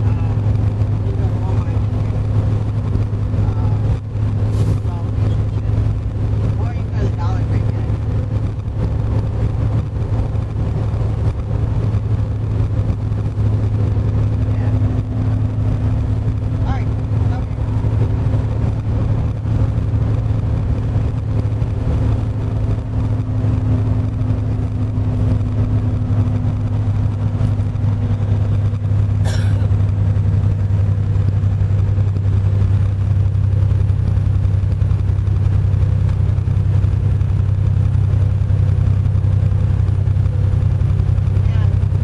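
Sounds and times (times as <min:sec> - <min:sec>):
truck diesel engine droning: 0:00.0 - 0:42.0.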